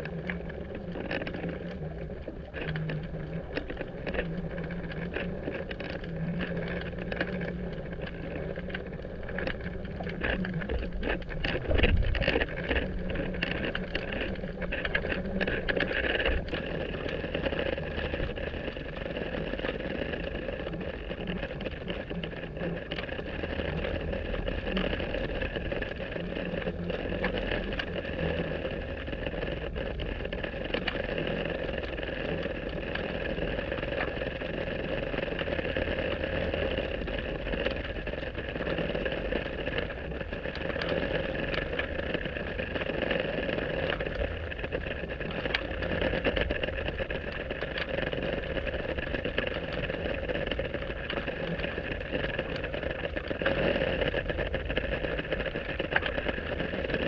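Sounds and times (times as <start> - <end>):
faint ticks: 0.0 - 57.0
muffled boat motor hum underwater: 0.0 - 57.0.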